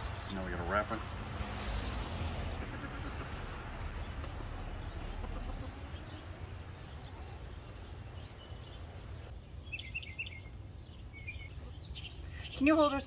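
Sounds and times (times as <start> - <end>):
low outdoor rumble: 0.0 - 12.9
birds chirping: 0.0 - 13.0.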